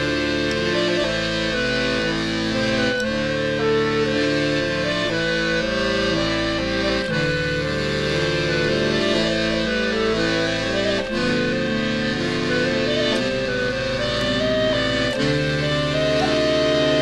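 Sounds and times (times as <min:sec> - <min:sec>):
accordion playing held chords: 0:00.0 - 0:17.0.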